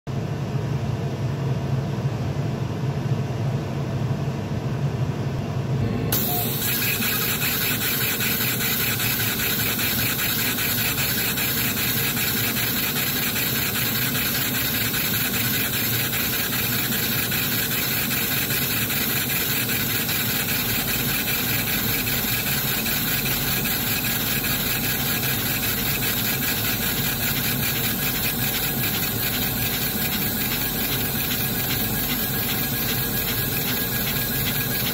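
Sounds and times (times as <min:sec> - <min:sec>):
laser engraver carriage running: 0:06.1 - 0:34.9.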